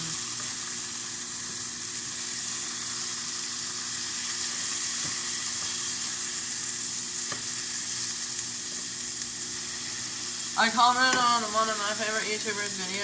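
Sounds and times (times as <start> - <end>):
patties sizzling in a frying pan: 0.0 - 13.0.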